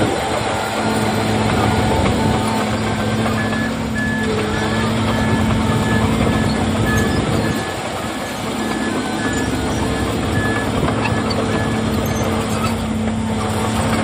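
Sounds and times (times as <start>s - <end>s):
diesel machinery running: 0.0s - 14.0s
reversing alarm beeping: 0.1s - 12.8s.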